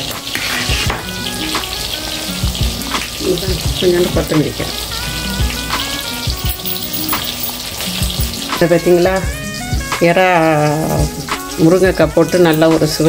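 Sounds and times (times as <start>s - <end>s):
background music: 0.0s - 13.0s
hot oil sizzling and crackling: 0.0s - 13.0s.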